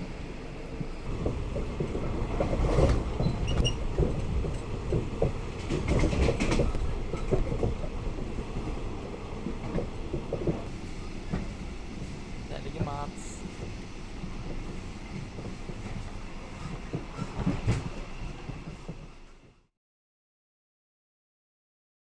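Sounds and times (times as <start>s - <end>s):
train rumbling on track: 0.0s - 19.7s
wheels clacking over rails: 1.1s - 19.4s.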